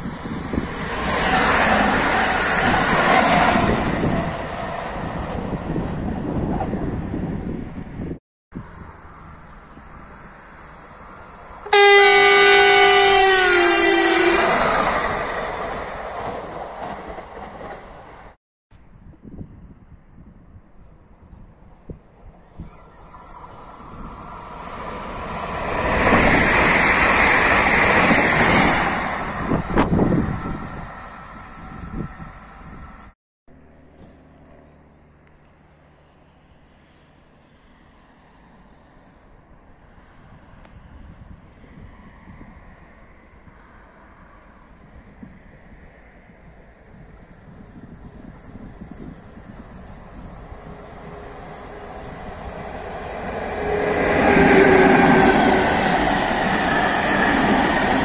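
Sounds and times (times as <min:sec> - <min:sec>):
train passing at speed: 0:00.0 - 0:18.4, 0:21.2 - 0:33.2, 0:35.7 - 0:58.0.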